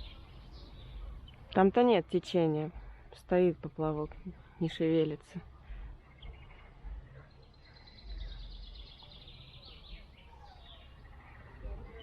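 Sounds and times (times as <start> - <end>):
bird chirping: 0.0 - 3.0, 4.0 - 12.0
low uneven rumble: 0.0 - 12.0.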